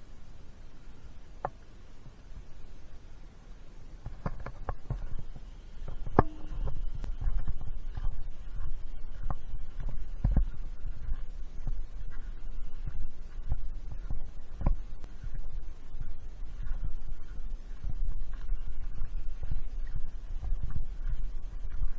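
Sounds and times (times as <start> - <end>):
footsteps on wet trail: 3.9 - 21.9
microphone handling rumble: 4.0 - 21.9.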